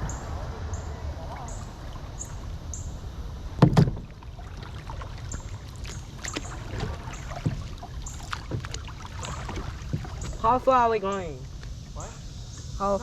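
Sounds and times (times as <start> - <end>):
steady low rumble: 0.0 - 13.0
paddle strokes splashing in water: 1.2 - 12.0.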